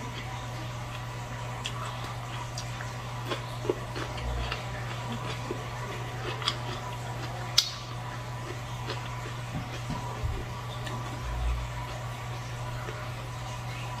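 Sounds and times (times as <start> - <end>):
chewing crunches and clicks: 0.0 - 13.5
low steady hum: 0.0 - 14.0.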